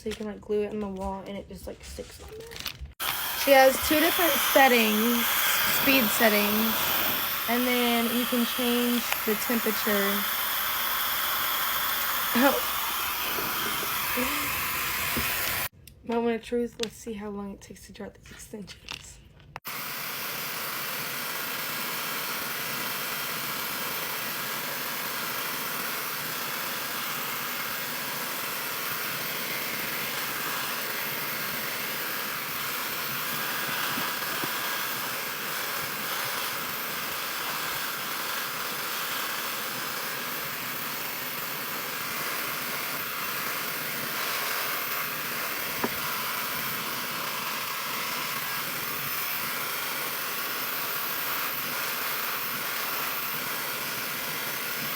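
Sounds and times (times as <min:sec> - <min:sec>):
hair dryer running: 0:03.0 - 0:15.7, 0:19.6 - 0:54.9.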